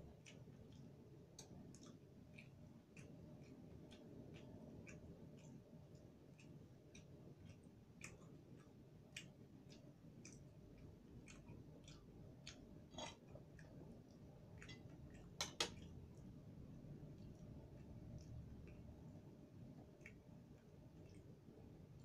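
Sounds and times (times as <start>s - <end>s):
person chewing with mouth clicks: 0.0s - 22.0s.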